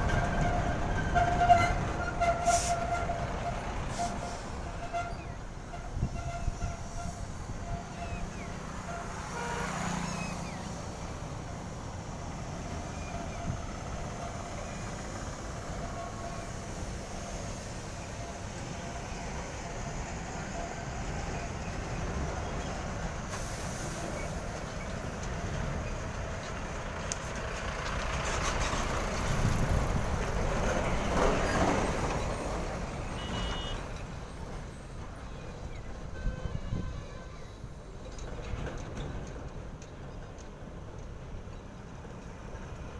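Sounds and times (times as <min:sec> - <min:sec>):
trucks driving past: 0:00.0 - 0:36.3.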